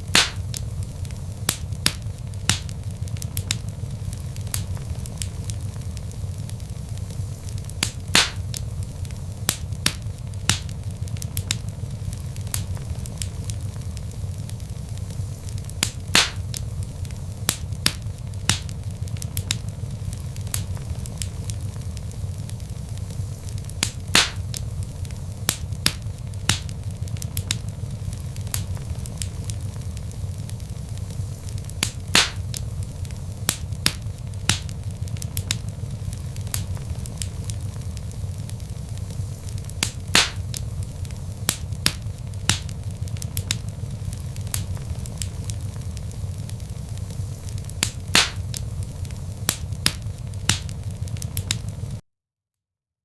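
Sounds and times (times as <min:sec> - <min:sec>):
fire popping: 0:00.0 - 0:52.0
log fire crackling: 0:00.0 - 0:52.0.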